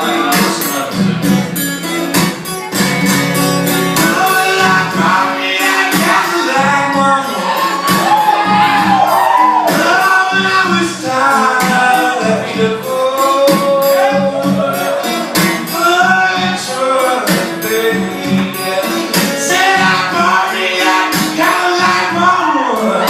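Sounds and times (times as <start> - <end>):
man singing: 0.0 - 1.2, 3.4 - 23.0
strummed guitar: 0.0 - 23.0.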